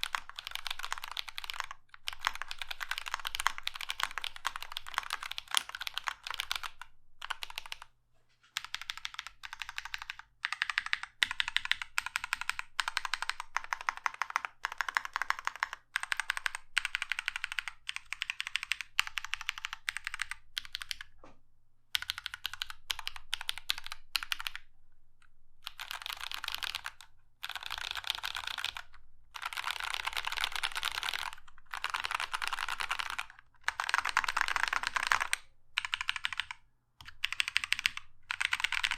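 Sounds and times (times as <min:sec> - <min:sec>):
mechanical keyboard typing: 0:00.0 - 0:07.9, 0:08.5 - 0:21.2, 0:22.0 - 0:24.6, 0:25.6 - 0:38.9.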